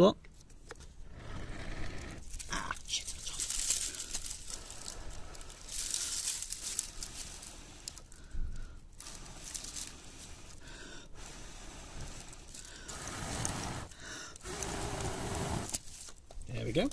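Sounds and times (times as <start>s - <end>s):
breath blowing in long puffs: 1.0s - 16.1s
dry leaves crinkling: 2.2s - 14.8s, 15.6s - 16.9s.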